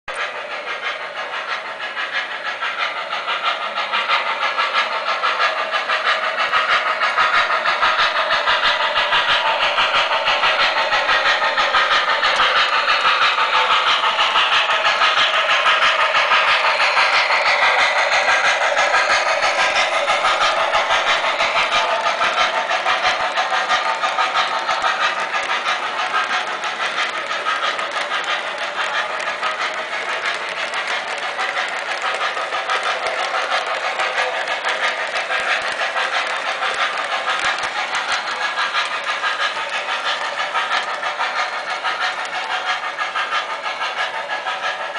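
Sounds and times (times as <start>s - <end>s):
model train wheels on rails: 0.1s - 44.9s.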